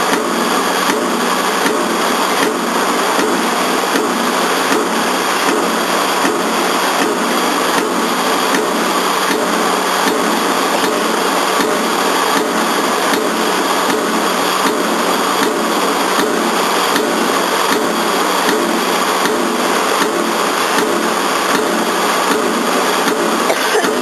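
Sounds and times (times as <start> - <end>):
machine running hum: 0.0 - 24.0.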